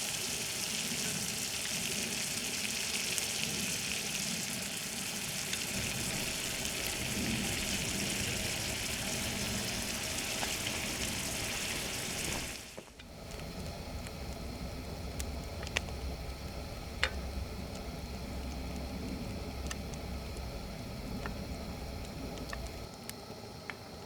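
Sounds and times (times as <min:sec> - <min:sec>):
food sizzling in hot fat: 0:00.0 - 0:22.9.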